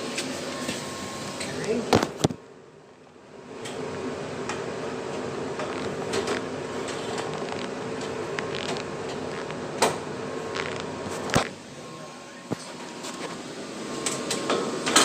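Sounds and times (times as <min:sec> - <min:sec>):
furnace humming: 0:00.0 - 0:15.0.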